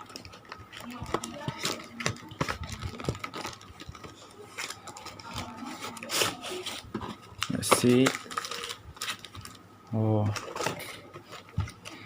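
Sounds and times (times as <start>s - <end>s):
hands opening toy packaging: 0.0s - 9.6s, 10.2s - 12.0s.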